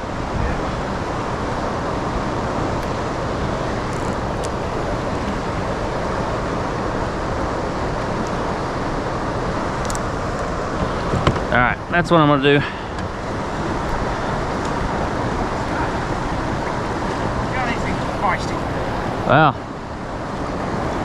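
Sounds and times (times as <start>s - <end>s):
turbulent water roaring: 0.0s - 21.0s.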